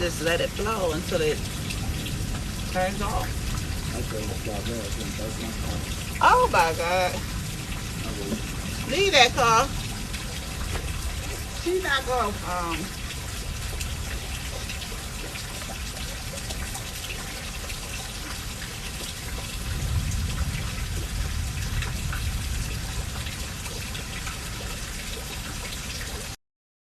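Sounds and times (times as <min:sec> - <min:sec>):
low rumble: 0:00.0 - 0:16.8, 0:18.5 - 0:24.7
drips ticking: 0:00.0 - 0:26.4
rain pouring: 0:00.0 - 0:26.4.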